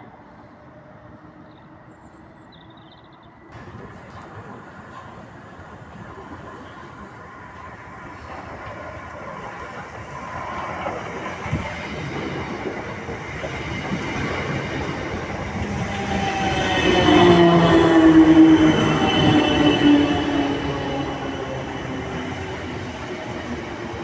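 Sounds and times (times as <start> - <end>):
train rumbling: 0.0 - 24.0
train wheels whining: 0.1 - 24.0.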